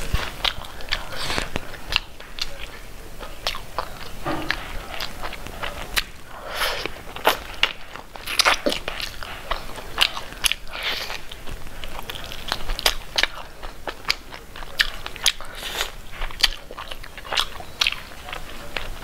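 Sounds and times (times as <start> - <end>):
person chewing meat off bone: 0.0 - 19.0.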